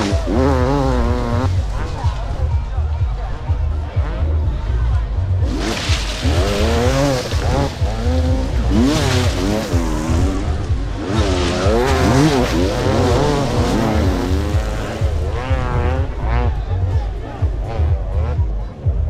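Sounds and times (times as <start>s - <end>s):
motocross engines revving: 0.0s - 19.0s.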